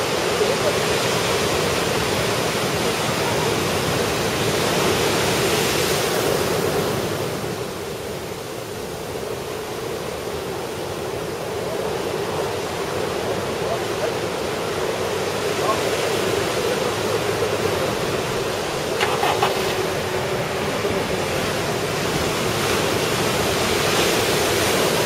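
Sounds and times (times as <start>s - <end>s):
ocean surf breaking: 0.0s - 25.0s.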